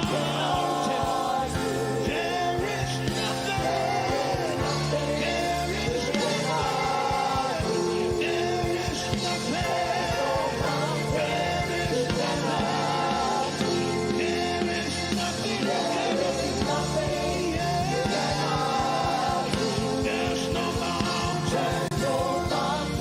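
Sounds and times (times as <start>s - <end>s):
live band playing a beat: 0.0s - 23.0s.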